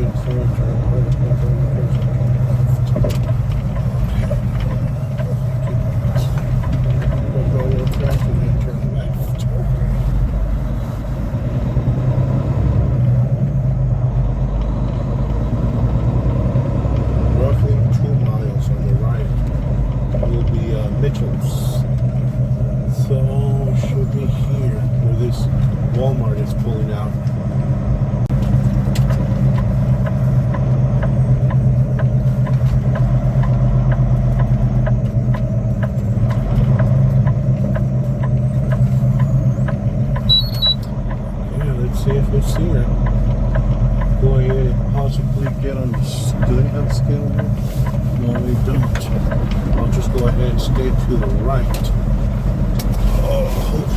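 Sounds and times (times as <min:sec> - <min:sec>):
light regular ticking: 0:00.0 - 0:53.9
road noise: 0:00.0 - 0:53.9
truck diesel engine rumble: 0:00.0 - 0:53.9.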